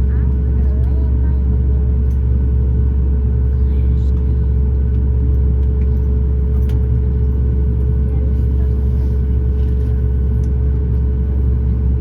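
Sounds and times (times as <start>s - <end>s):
airliner cabin rumble: 0.0s - 12.0s
constant hum tone: 0.0s - 12.0s.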